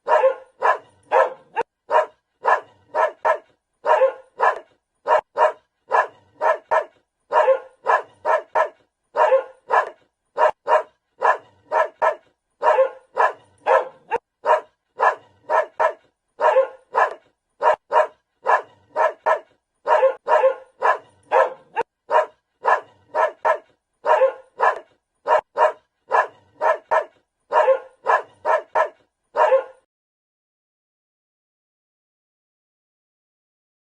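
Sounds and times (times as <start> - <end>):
dog barking: 0.0 - 29.9.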